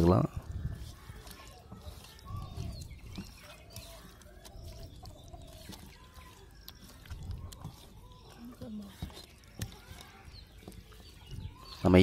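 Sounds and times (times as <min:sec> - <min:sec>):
faint bird calls: 0:00.0 - 0:12.0
hands kneading meat in marinade: 0:00.0 - 0:12.0.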